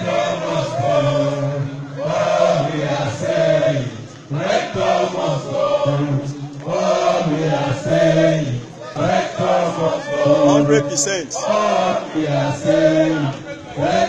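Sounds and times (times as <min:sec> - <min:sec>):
crowd chanting in unison: 0:00.0 - 0:14.0.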